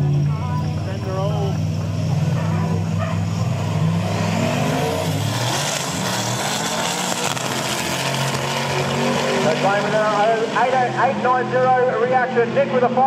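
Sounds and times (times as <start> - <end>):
drag truck engines accelerating: 0.0 - 13.0.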